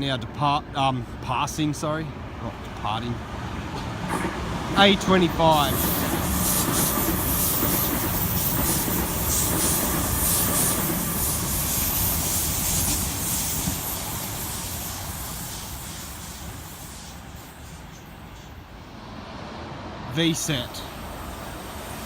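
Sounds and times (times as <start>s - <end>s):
electric train passing: 0.2s - 22.0s.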